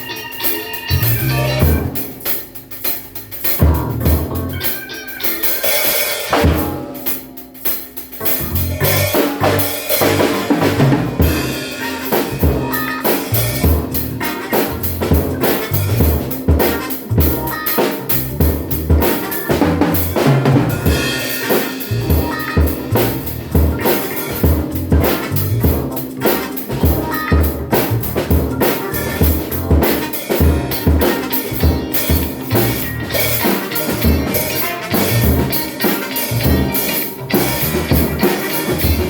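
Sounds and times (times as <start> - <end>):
accompanying music: 0.0 - 39.0
drum kit groove: 0.0 - 39.0.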